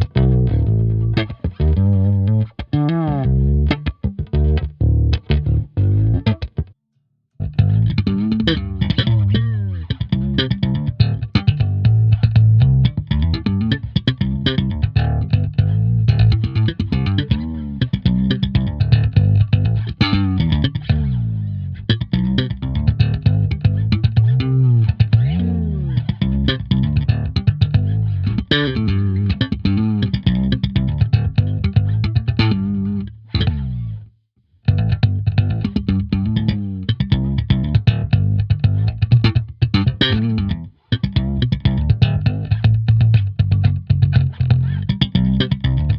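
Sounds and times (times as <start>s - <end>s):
fretless bass sliding plucked notes: 0.0s - 6.8s, 7.4s - 45.9s.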